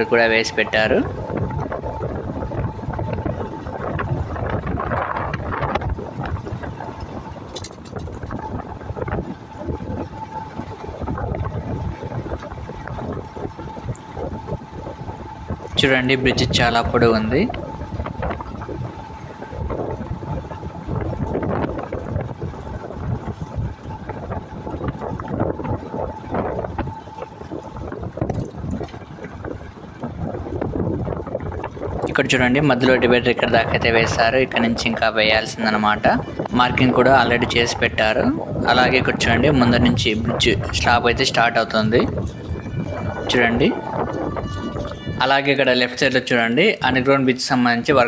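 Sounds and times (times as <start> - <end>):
moving vehicle rumble: 0.0 - 45.4
faint steady whine: 0.0 - 48.0
wind buffeting microphone: 0.0 - 48.0.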